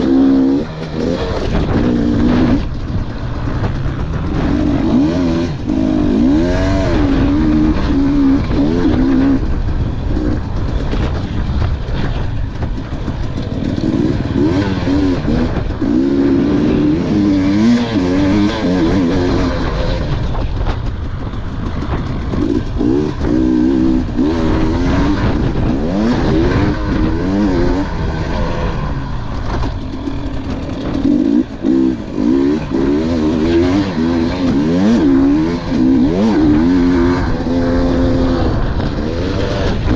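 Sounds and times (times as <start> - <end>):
dirt bike engine racing: 0.0 - 39.9
wind and track noise: 0.0 - 39.9.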